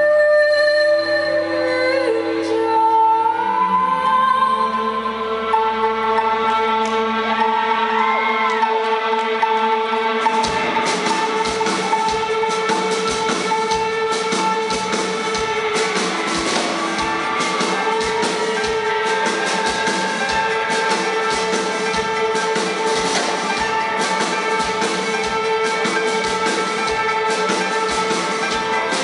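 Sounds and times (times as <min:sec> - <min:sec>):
rock band playing: 0:05.5 - 0:29.0.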